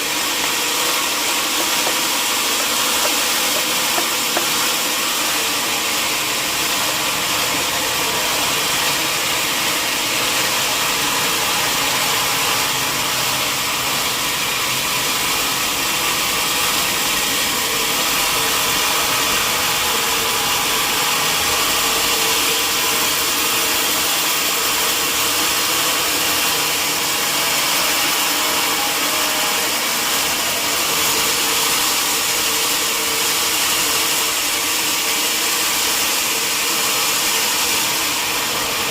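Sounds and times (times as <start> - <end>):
sawmill machinery hissing: 0.0 - 38.9.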